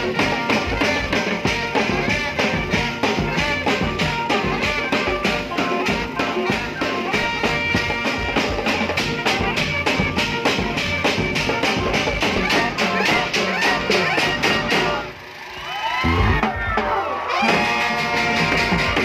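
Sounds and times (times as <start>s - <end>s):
steady drum beat: 0.0s - 15.2s, 16.0s - 19.0s
brass horns playing: 0.0s - 15.3s, 17.2s - 19.0s.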